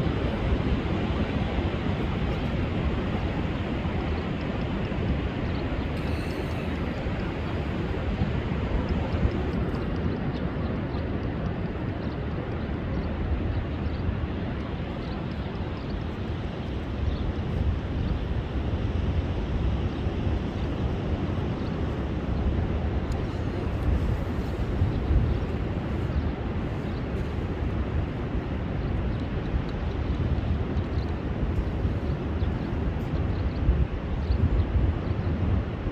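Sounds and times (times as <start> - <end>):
wind: 0.0 - 35.9.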